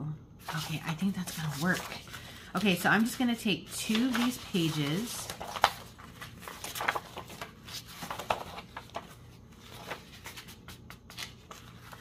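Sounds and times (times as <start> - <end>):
paper rustling and sliding: 0.4 - 12.0.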